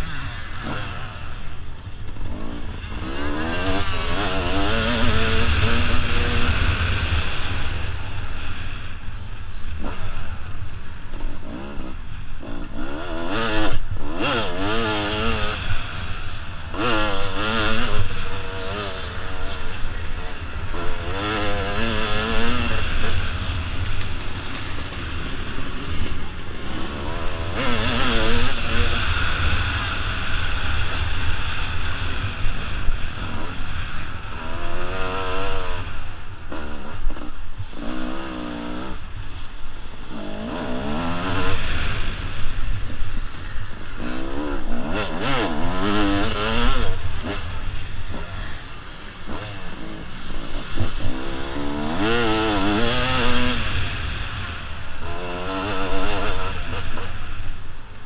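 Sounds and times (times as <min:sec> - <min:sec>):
two-stroke motorcycle engine revving: 0:00.0 - 0:58.0
wind rumble on microphone: 0:00.0 - 0:58.0.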